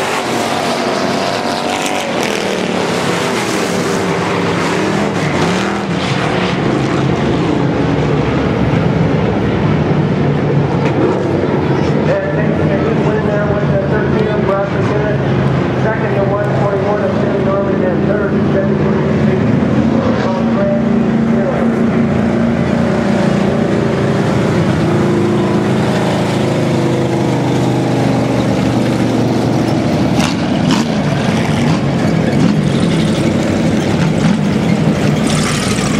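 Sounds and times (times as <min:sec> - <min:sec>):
race car engines: 0:00.0 - 0:35.9.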